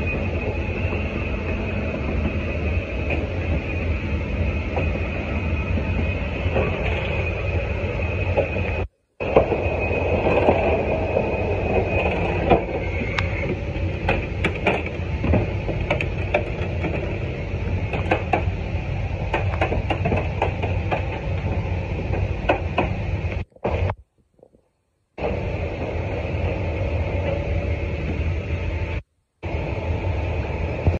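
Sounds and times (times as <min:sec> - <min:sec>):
machinery drone with high whine: 0:00.0 - 0:30.9.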